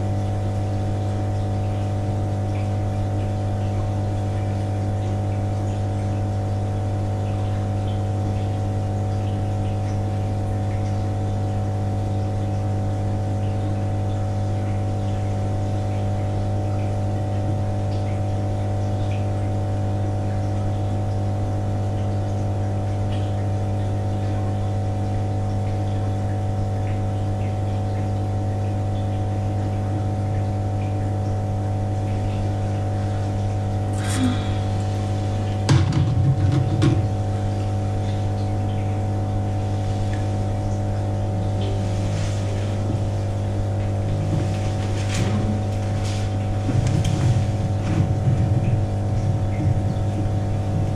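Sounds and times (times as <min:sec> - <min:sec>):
low machine hum: 0:00.0 - 0:50.9.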